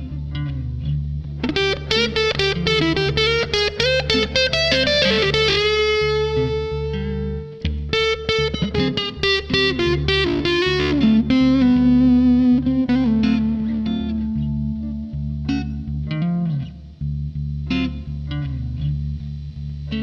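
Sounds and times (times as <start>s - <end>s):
fuzz electric guitar: 0.0s - 20.0s.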